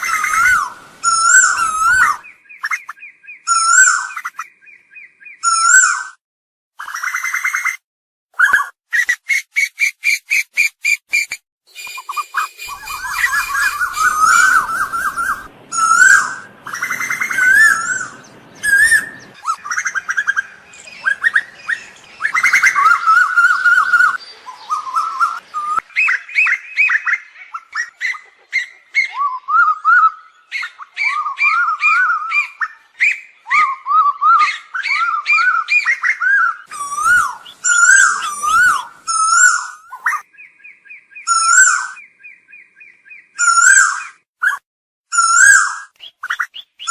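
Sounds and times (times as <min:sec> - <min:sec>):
birds calling with whistled notes: 0:00.0 - 0:06.2, 0:06.8 - 0:07.8, 0:08.4 - 0:46.9.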